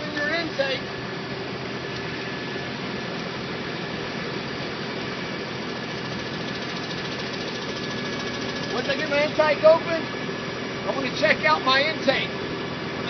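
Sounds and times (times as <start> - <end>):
fire engine and pump idling: 0.0 - 13.0.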